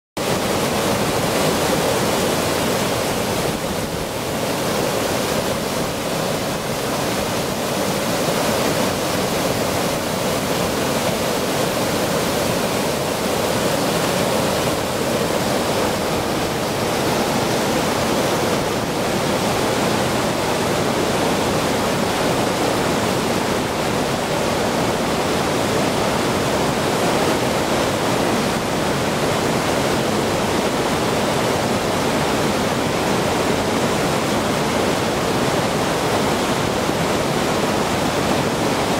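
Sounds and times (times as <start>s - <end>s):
waterfall rushing: 0.2s - 38.9s.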